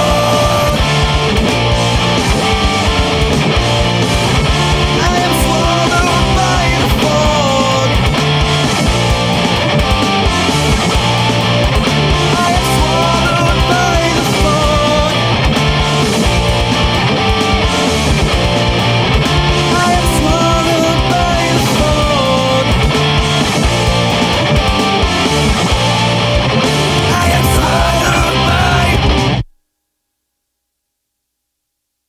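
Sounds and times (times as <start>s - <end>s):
melodic guitar lead line: 0.0s - 29.4s
distorted guitars: 0.0s - 29.5s.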